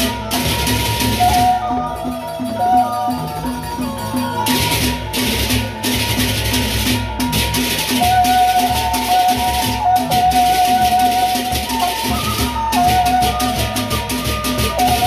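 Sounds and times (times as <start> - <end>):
held melody line: 0.0 - 15.0
large barrel drums: 0.0 - 15.0.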